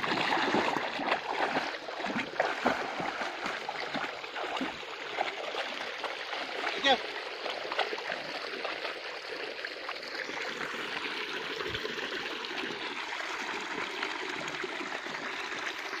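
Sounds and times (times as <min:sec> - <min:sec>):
water splashing into floodwater: 0:00.0 - 0:13.6
water gushing from a pipe: 0:00.0 - 0:16.0.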